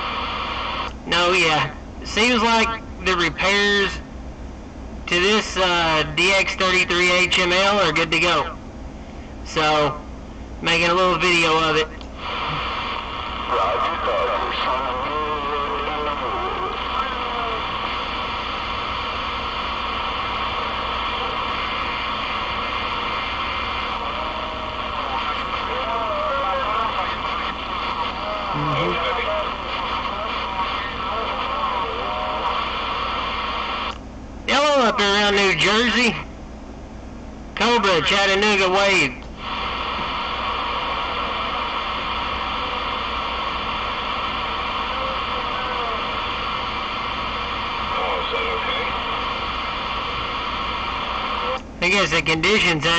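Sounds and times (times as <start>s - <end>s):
faint warbly radio voices: 0.0s - 4.1s, 5.0s - 8.6s, 9.4s - 10.0s, 10.6s - 36.3s, 37.6s - 52.9s
radio static hiss: 0.0s - 4.1s, 5.0s - 36.3s, 37.5s - 52.9s.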